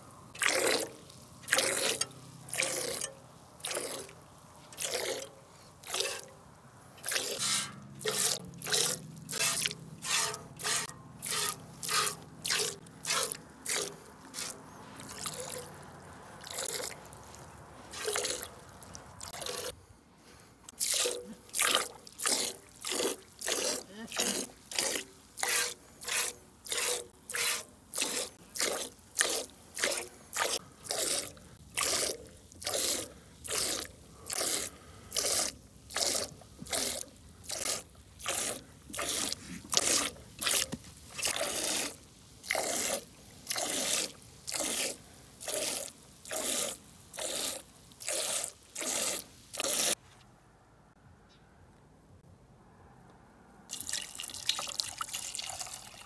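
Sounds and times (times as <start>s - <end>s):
milk squirting into metal pail: 0.4s - 19.8s, 20.7s - 50.0s, 53.7s - 56.0s.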